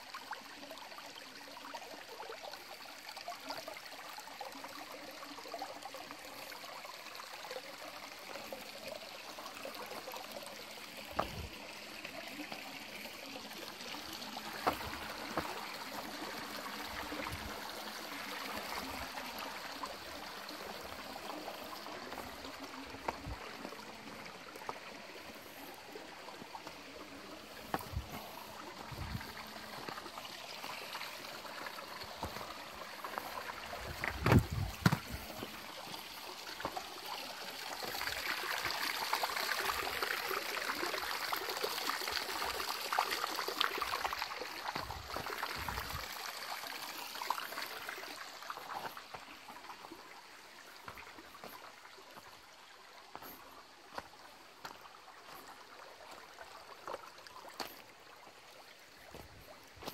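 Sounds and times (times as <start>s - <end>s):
stream trickling and splashing: 0.0s - 59.9s.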